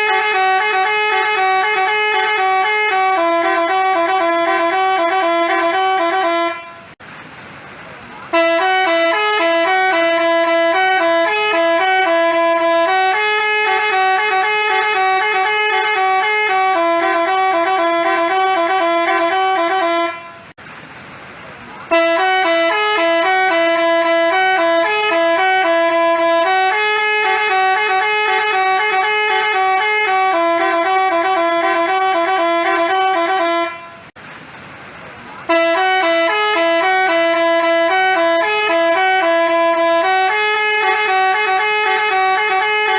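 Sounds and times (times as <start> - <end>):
horn playing a multi-note tune: 0.0 - 7.0, 8.3 - 20.5, 21.9 - 34.1, 35.5 - 42.9.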